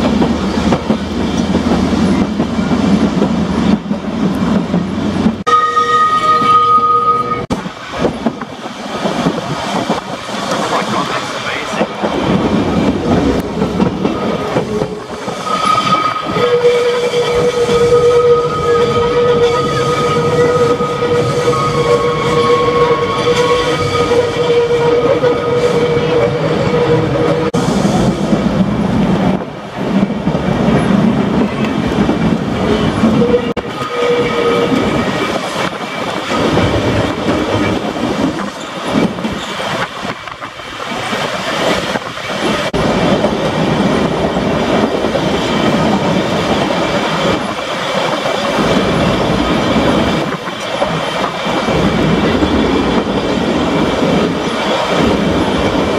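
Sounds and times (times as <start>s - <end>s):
tram wheels rumbling on track: 0.0s - 55.9s.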